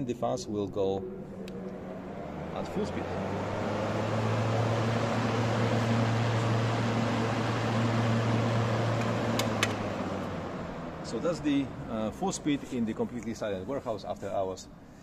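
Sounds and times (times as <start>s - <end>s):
fans rushing air with low hum: 0.0s - 15.0s.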